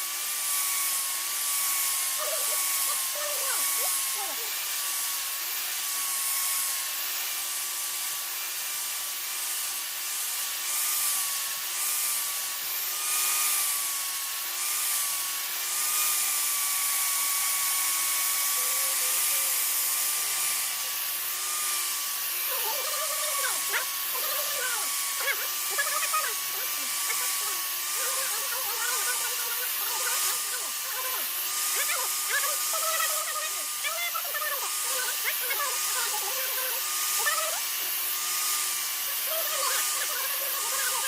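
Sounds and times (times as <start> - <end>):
electric power tool whining: 0.0 - 41.0.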